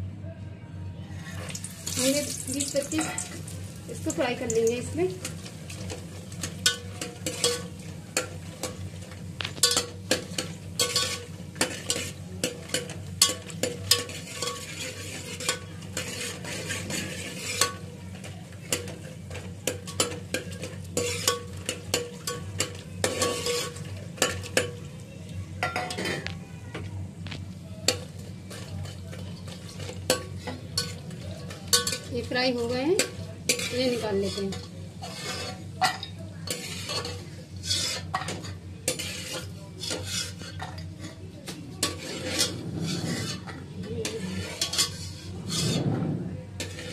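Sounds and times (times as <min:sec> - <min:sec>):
metal spatula scraping a pot: 0:01.2 - 0:24.8, 0:27.9 - 0:46.9
oil sizzling: 0:01.2 - 0:25.9, 0:27.0 - 0:40.6.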